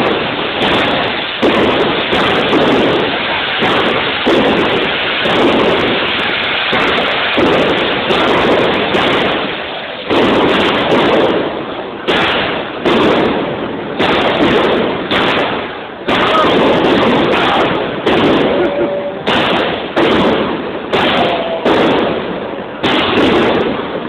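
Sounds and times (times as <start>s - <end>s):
fireworks crackling: 0.0s - 24.0s
loud firework bursts: 0.0s - 24.0s.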